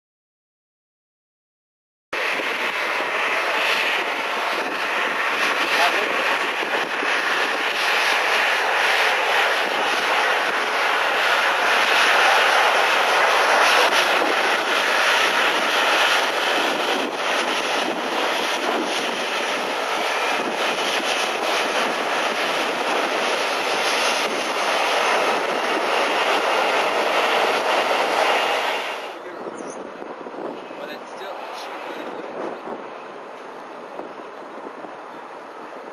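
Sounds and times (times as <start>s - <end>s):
jet engines running: 2.2s - 35.9s.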